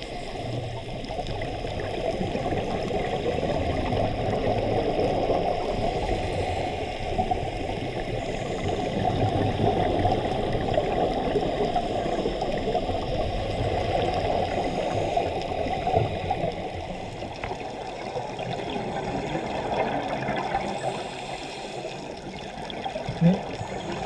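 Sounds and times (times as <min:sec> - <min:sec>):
muffled underwater rushing hiss: 0:00.0 - 0:24.0.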